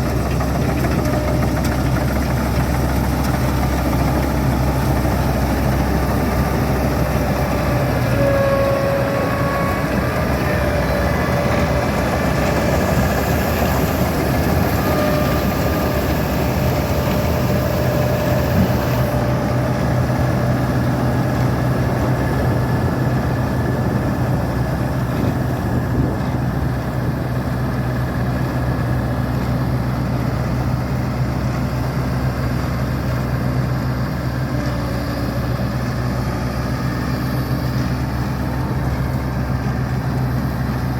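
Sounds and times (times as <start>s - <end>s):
combine harvester engine humming: 0.0s - 40.9s.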